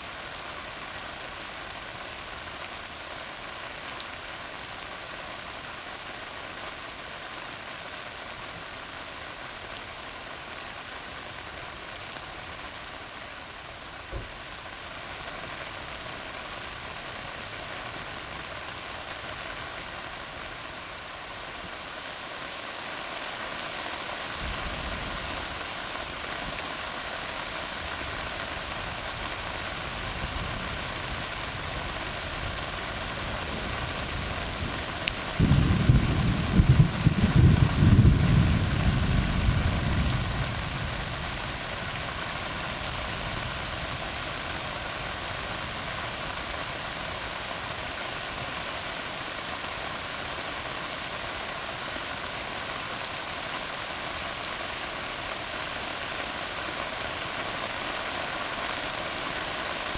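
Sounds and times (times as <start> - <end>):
rain on a road: 0.0 - 59.9.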